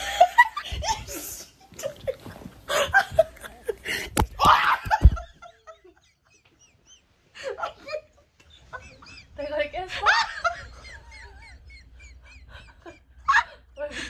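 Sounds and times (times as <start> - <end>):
women laughing and squealing: 0.0 - 14.0.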